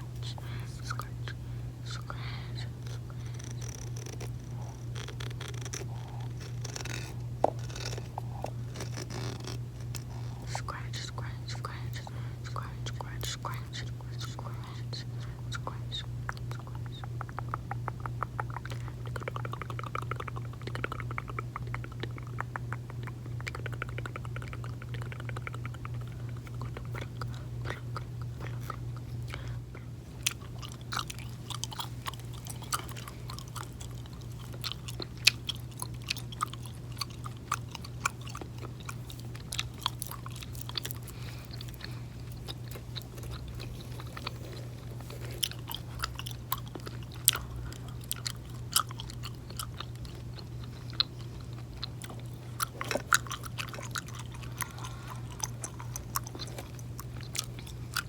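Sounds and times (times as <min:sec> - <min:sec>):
gum chewing clicks and smacks: 0:00.0 - 0:58.0
steady low hum: 0:00.0 - 0:58.0.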